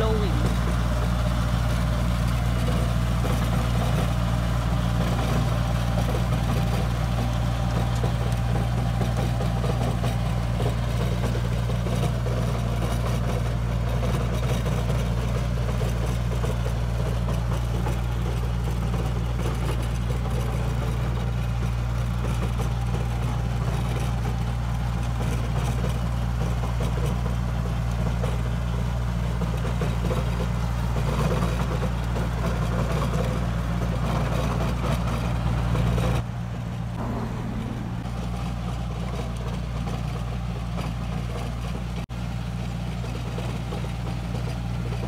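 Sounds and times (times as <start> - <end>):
tractor engine droning: 0.0 - 45.0.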